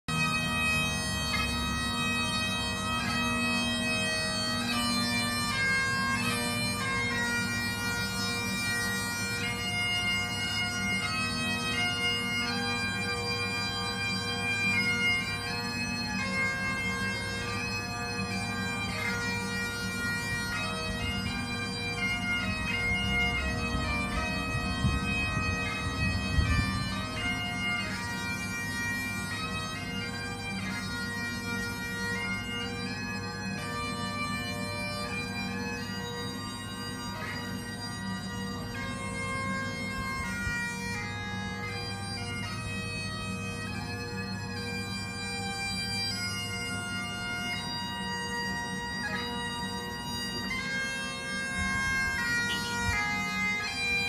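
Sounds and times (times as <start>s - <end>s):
bagpipes playing: 0.1s - 54.0s.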